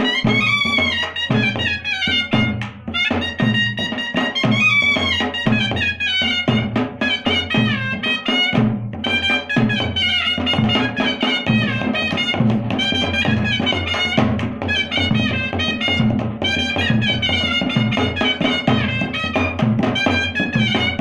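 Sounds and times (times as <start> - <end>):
kettle drums beaten with sticks: 0.0 - 21.0
shehnai melody: 0.0 - 21.0.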